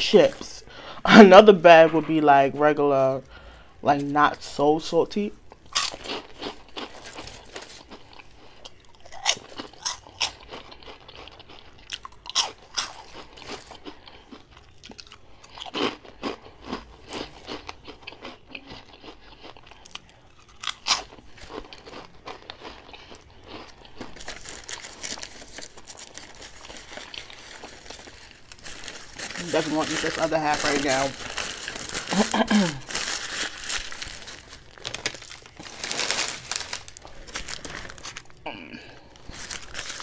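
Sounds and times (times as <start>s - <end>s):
chips crunching in mouth: 5.5s - 40.0s.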